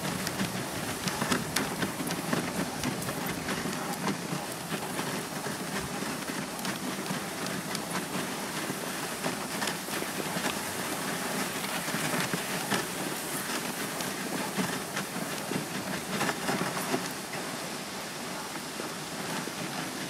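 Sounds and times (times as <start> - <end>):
sled runners scraping over snow: 0.0 - 20.0.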